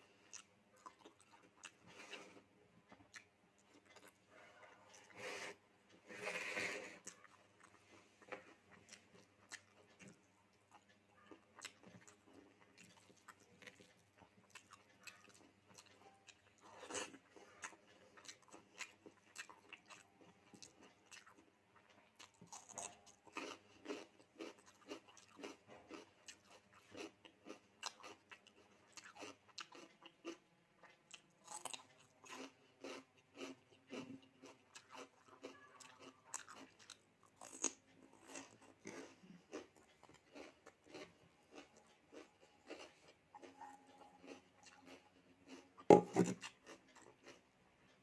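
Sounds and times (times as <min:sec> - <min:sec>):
chewing with clicks and crunches: 0:00.0 - 0:48.0.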